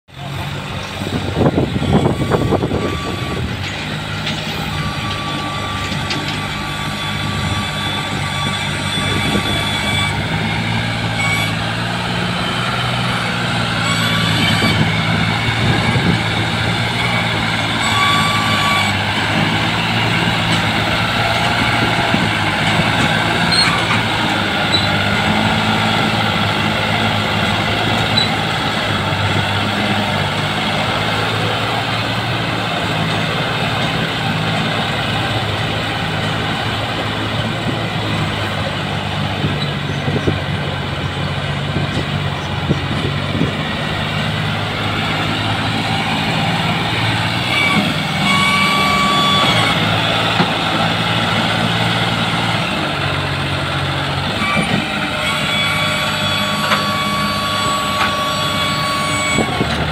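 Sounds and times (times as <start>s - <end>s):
tractor diesel engine working hard: 0.0s - 59.9s.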